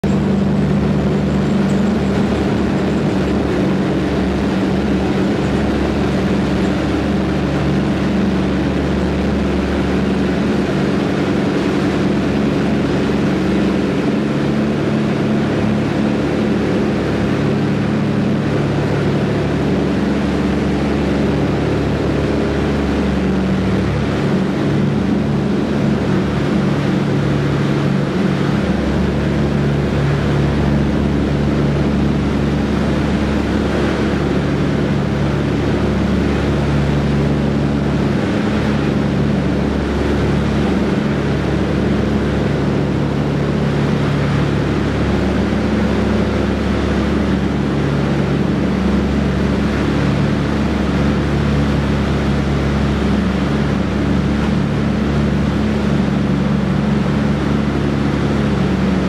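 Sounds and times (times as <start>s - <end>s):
aircraft propeller engines droning: 0.0s - 59.0s.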